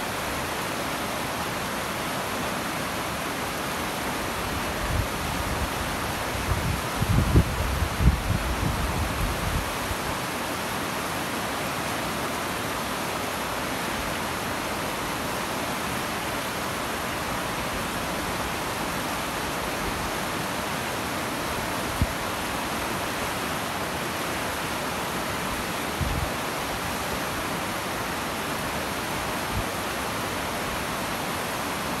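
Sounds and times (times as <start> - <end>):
river flowing over rocks: 0.0 - 32.0.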